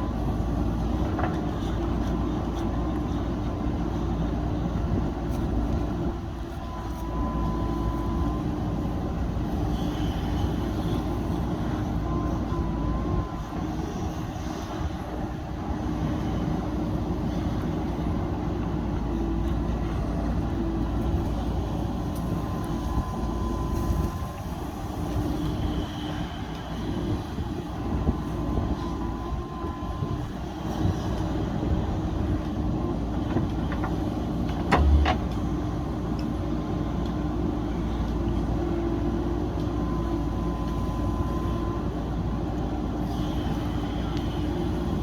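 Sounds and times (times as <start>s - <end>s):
diesel engine rumbling: 0.0s - 45.0s.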